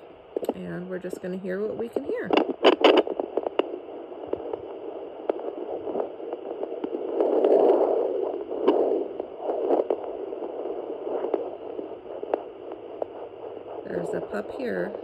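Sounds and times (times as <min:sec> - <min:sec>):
doppler whooshing crackly static: 0:00.0 - 0:15.0.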